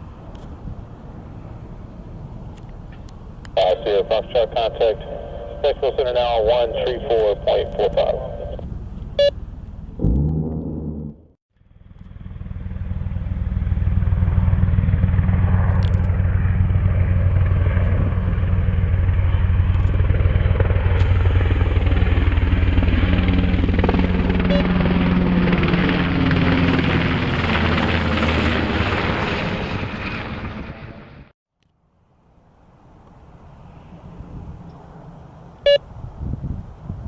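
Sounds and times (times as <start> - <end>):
helicopter flying past: 0.8 - 31.3.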